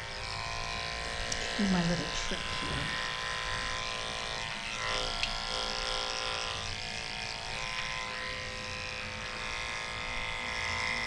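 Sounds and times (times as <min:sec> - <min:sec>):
electric clippers running: 0:00.0 - 0:11.0.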